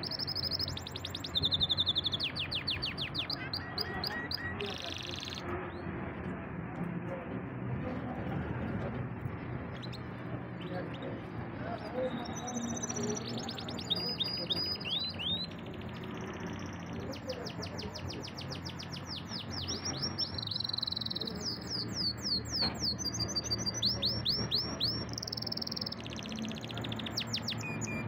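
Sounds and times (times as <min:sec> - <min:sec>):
canary singing trills: 0:00.0 - 0:05.9, 0:09.7 - 0:28.0.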